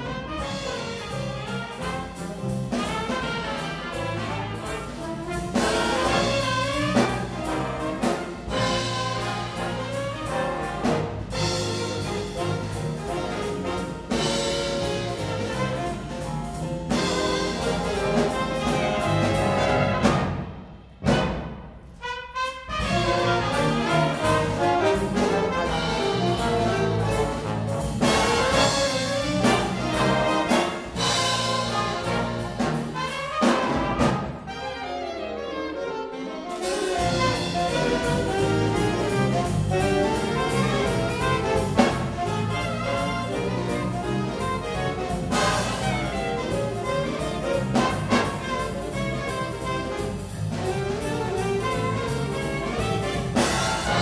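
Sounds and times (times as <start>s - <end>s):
big band playing swing jazz: 0.0s - 54.0s.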